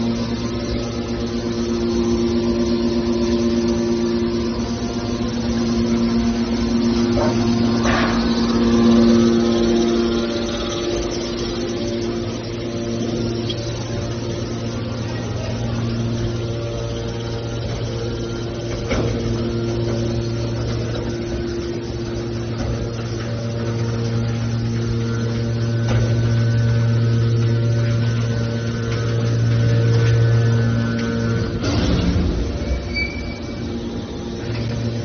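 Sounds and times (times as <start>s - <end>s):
baler motor hum: 0.0s - 35.0s.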